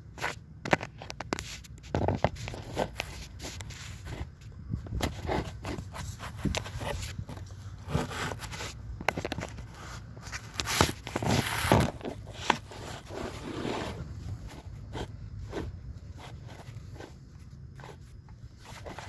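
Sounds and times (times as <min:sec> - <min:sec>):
hand rubbing on phone: 0:01.1 - 0:19.0.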